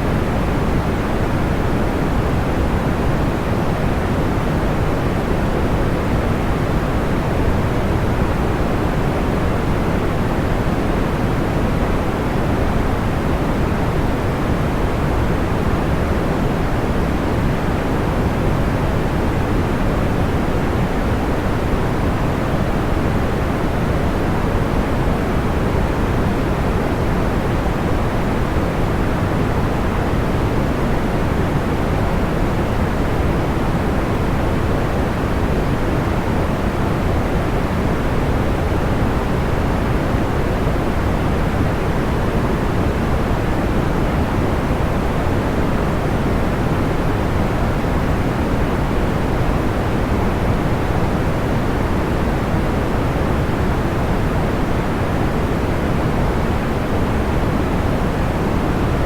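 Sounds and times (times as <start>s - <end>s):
soft low white noise: 0.0s - 59.0s.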